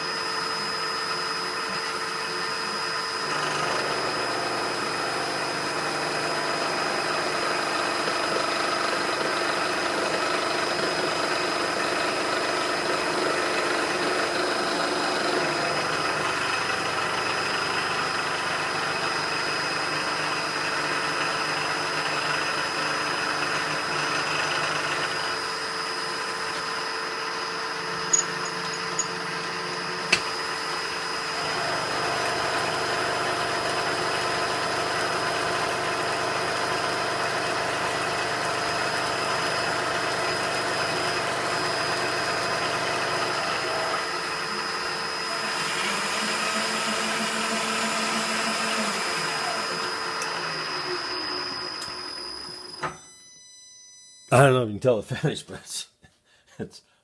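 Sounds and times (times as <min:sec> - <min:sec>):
tool post grinder whining: 0:00.0 - 0:53.0
metal lathe turning: 0:00.2 - 0:52.8.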